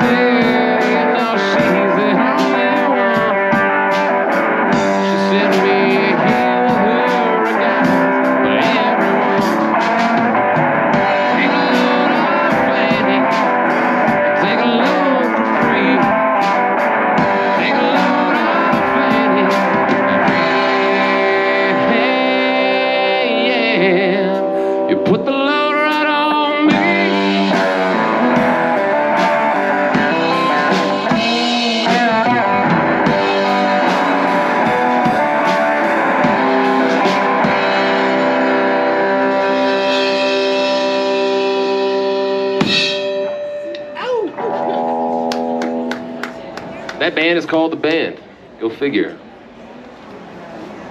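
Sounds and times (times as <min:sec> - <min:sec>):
electric guitar: 0:00.0 - 0:47.3
drum kit playing: 0:00.0 - 0:47.7.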